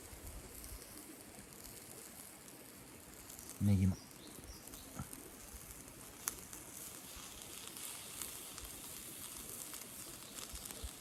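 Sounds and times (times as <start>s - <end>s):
skewers sizzling over charcoal: 0.0s - 11.0s.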